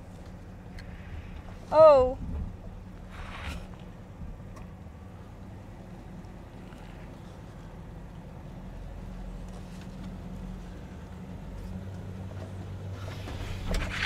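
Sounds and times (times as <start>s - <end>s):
van engine running: 0.0s - 14.0s.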